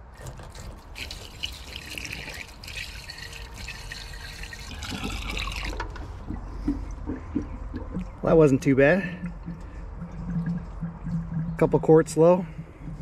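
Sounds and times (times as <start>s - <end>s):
water pouring from a bucket: 0.0s - 13.0s.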